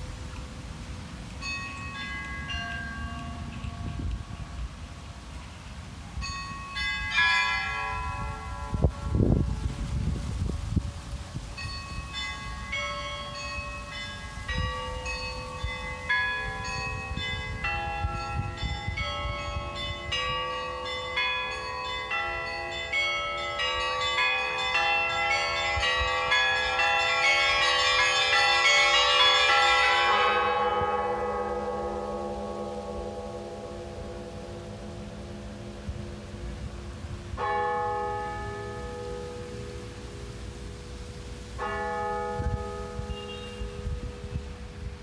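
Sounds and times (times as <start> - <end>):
church bells ringing: 1.4 - 5.4, 6.2 - 45.0.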